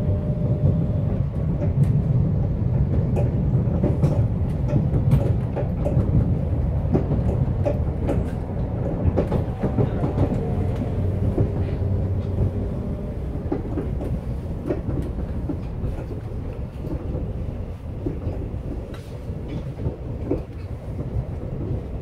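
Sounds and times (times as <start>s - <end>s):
subway car wheels rumbling: 0.0s - 22.0s
wheels clicking over rails: 1.6s - 22.0s.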